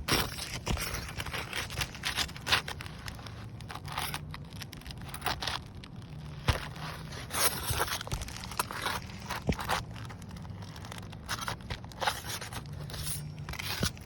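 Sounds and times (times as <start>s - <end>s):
shingle scraping and tearing: 0.0s - 14.0s.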